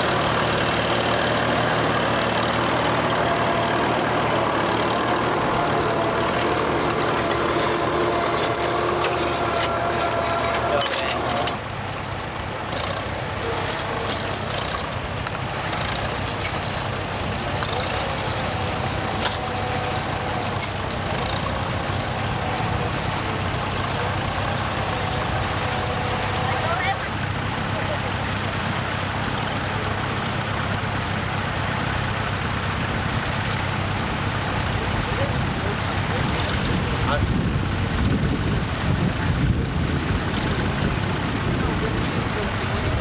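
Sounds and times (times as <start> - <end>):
tractor engine droning: 0.0 - 43.0.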